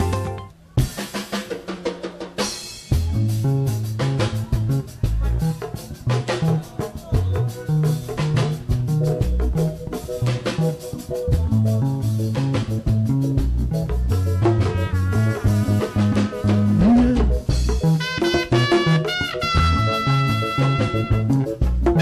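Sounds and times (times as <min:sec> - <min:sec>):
bass line: 0:00.0 - 0:00.5, 0:02.9 - 0:22.0
drums beat: 0:00.0 - 0:22.0.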